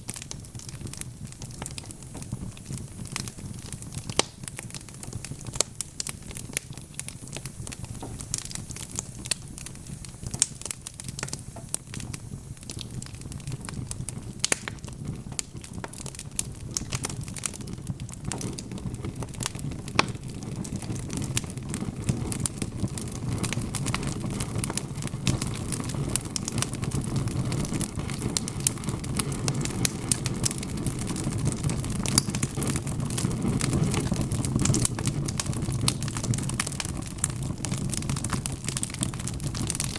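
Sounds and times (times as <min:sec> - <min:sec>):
logs crackling and popping: 0:00.0 - 0:39.9
low rush of flame: 0:00.0 - 0:39.9.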